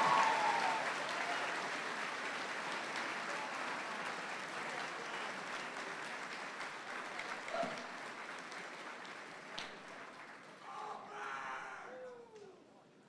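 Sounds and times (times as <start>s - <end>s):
audience clapping: 0.0s - 10.9s.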